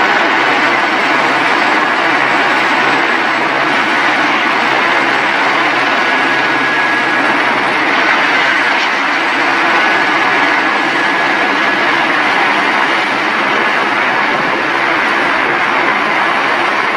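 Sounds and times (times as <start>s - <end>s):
helicopter rotor and engine: 0.0s - 16.9s.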